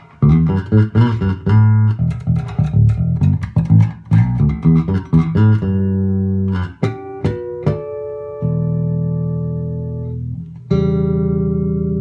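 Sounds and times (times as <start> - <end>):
electric bass fingerstyle: 0.0 - 12.0.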